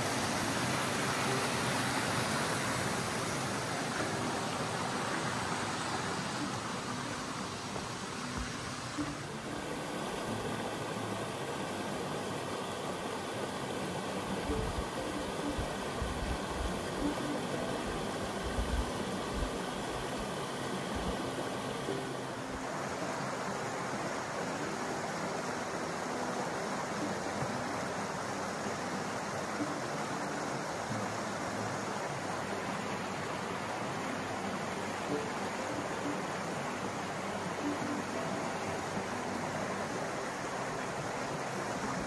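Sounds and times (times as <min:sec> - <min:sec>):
smooth even hiss: 0:00.0 - 0:42.0
steady rushing noise: 0:00.0 - 0:42.0.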